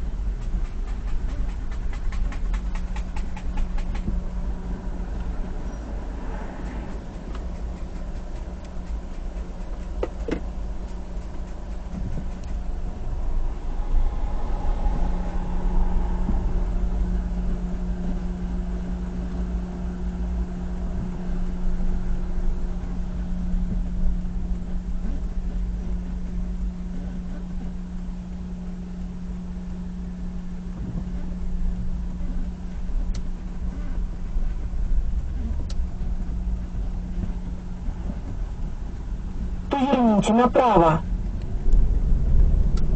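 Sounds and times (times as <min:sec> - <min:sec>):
car road and engine drone: 0:00.0 - 0:42.9.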